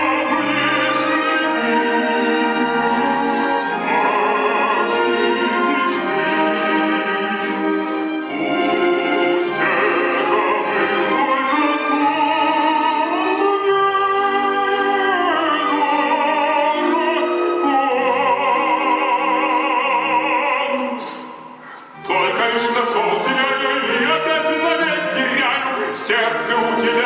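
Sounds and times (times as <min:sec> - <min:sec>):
operatic voice singing: 0:00.0 - 0:27.0
orchestral accompaniment: 0:00.0 - 0:27.0.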